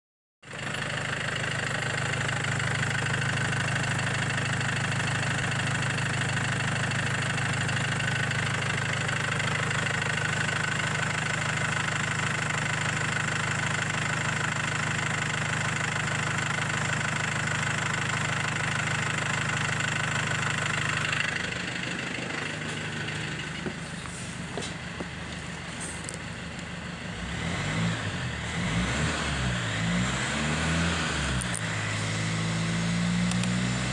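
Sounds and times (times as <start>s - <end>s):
diesel engine idling and revving: 0.4s - 33.9s.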